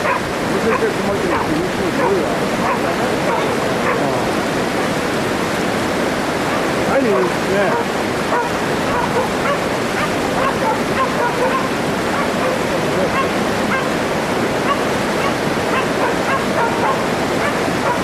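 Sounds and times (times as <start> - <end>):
dogs barking: 0.0 - 4.2, 6.4 - 14.0, 14.6 - 18.0
steady rushing noise: 0.0 - 18.0.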